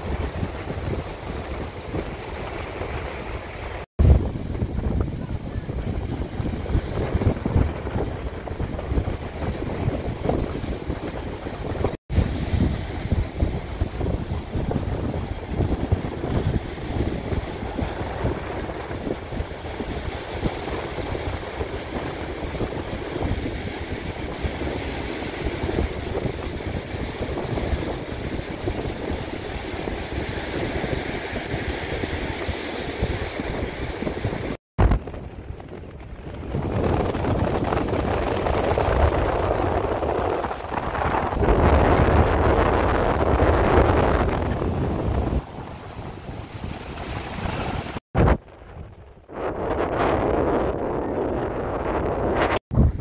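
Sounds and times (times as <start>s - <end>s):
surf breaking: 0.0s - 51.0s
wind buffeting microphone: 0.0s - 53.0s.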